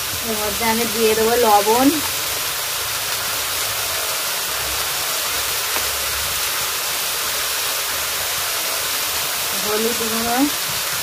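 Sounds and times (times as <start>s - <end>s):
cabbage sizzling in hot oil: 0.0s - 11.0s.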